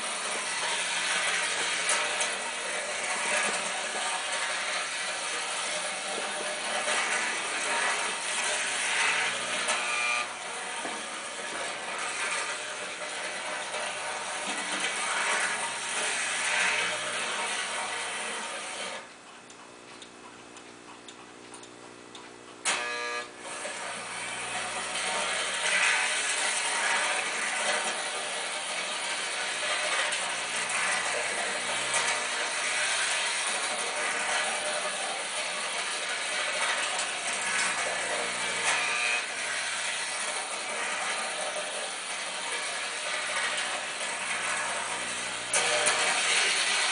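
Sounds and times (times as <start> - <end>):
model train clatter and whir: 0.0 - 46.9.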